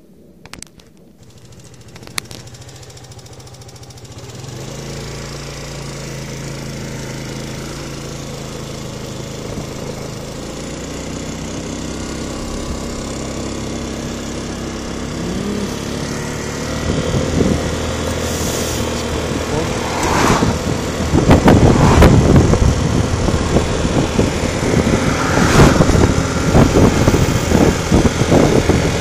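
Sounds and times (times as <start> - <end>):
scooter engine running: 1.2 - 29.0.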